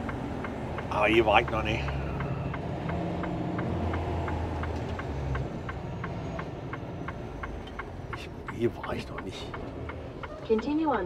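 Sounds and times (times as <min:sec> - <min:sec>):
truck engine drone: 0:00.0 - 0:11.0
turn signal ticking: 0:00.0 - 0:11.0.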